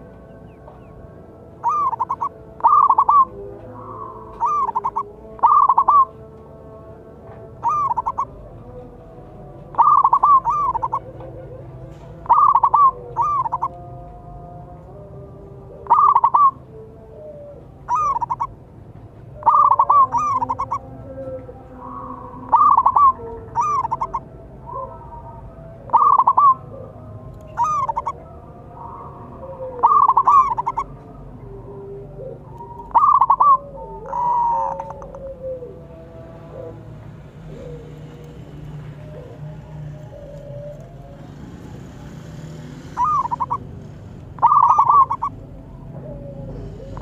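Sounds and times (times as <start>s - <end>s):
dove cooing: 0.0s - 6.3s, 7.5s - 18.6s, 19.3s - 47.0s
faint lower bird calls: 1.6s - 6.3s, 7.6s - 8.9s, 9.5s - 14.0s, 15.8s - 16.8s, 17.6s - 18.6s, 19.3s - 35.8s, 36.6s - 47.0s.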